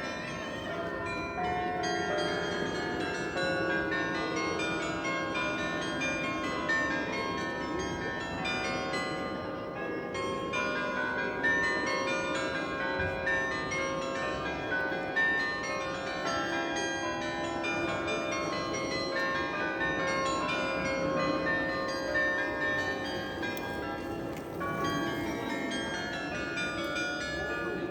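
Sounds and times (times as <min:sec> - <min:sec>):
church bells ringing: 0:00.0 - 0:27.9.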